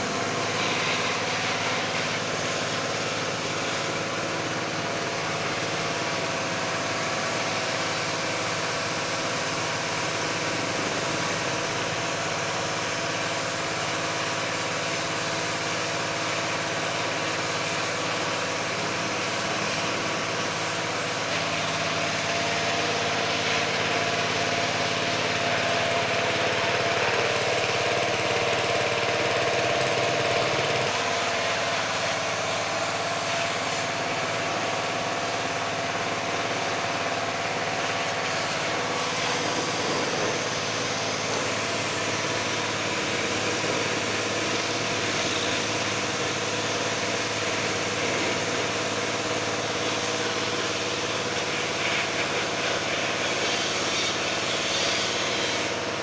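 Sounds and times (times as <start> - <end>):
pressure washer running: 0.0 - 56.0
water spray hiss: 5.1 - 55.9.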